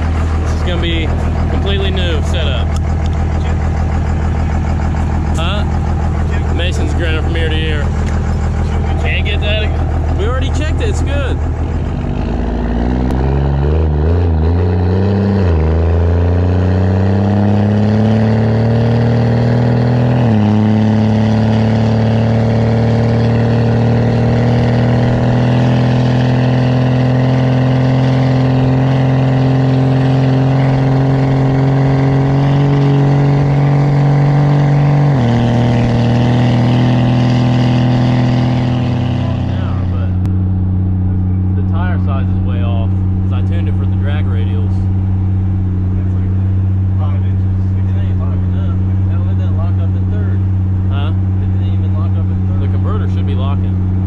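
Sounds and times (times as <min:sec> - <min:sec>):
diesel truck accelerating: 0:00.0 - 0:54.0.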